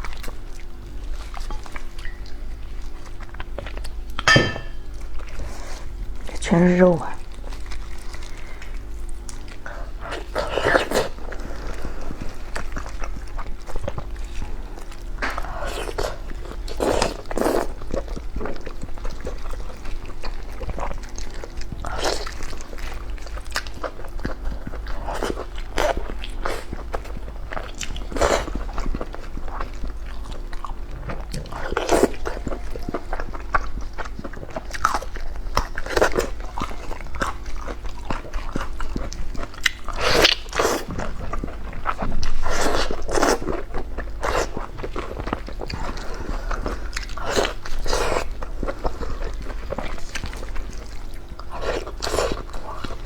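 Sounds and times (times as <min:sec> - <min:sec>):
person chewing food: 0:00.0 - 0:06.4, 0:07.1 - 0:53.0.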